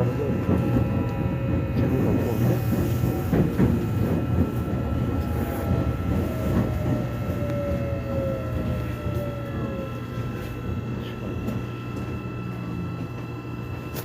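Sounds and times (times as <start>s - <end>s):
subway train wheels and motors: 0.0s - 14.0s
train motor whine: 0.0s - 14.0s.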